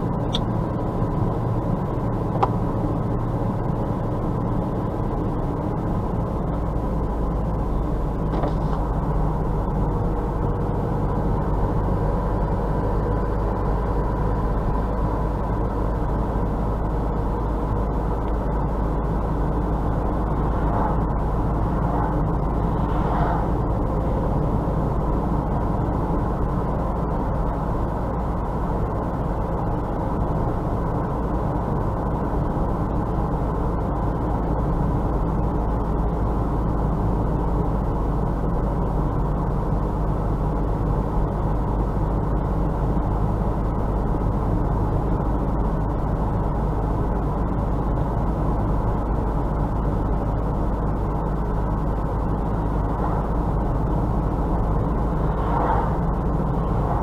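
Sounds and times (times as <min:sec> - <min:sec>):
tyre noise on snowy road: 0:00.0 - 0:57.0.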